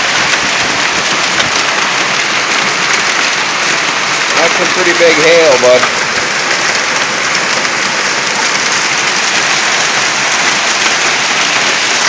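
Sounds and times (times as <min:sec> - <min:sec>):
hailstones clattering: 0:00.0 - 0:12.0.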